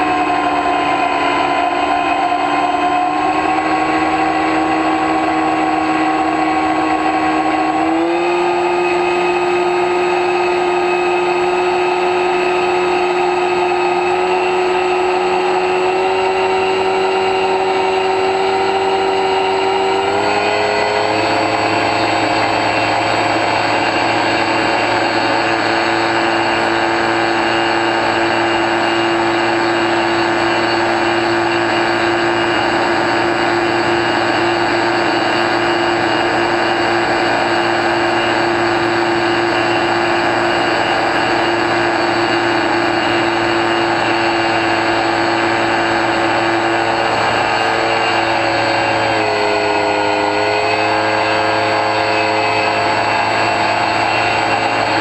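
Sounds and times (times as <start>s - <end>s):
rc plane motor whine: 0.0s - 55.0s.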